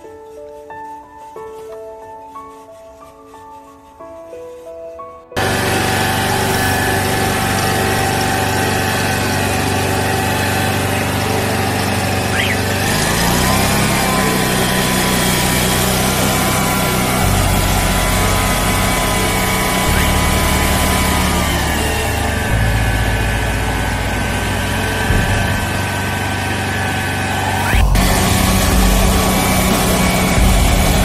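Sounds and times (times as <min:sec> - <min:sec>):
sewer jetter engine running: 0:05.4 - 0:31.0.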